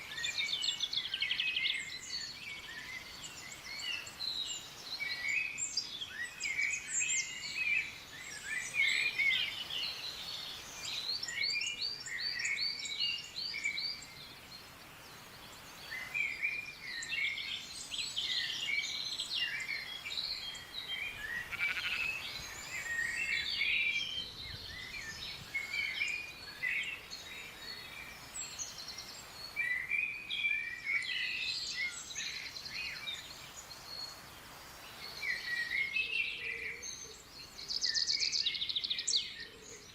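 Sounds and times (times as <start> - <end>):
wild birds singing and calling: 0.0 - 39.9.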